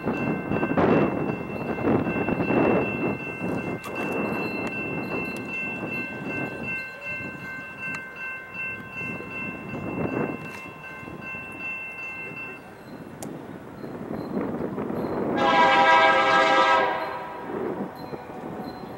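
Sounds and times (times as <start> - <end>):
crossing bell ringing: 0.0 - 18.9
freight train rumbling: 0.0 - 18.9
train clanks: 0.0 - 18.9.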